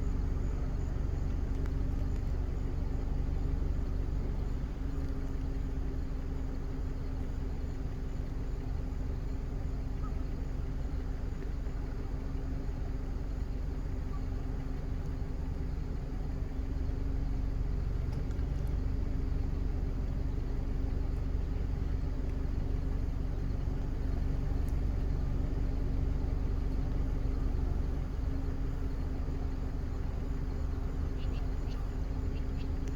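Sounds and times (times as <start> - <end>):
vehicle engine running: 0.0 - 32.9.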